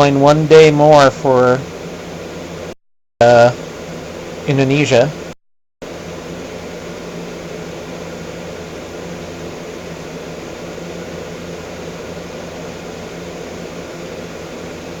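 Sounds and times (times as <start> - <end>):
fan machine hum and hiss: 0.0 - 15.0.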